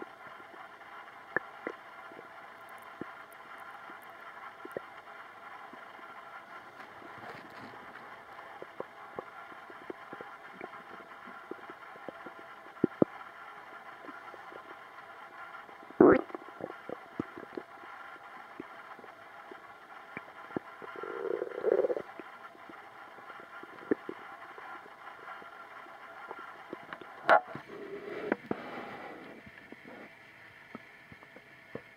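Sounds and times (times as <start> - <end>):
steady background hiss: 0.0 - 31.9
stomach gurgling: 0.0 - 31.9.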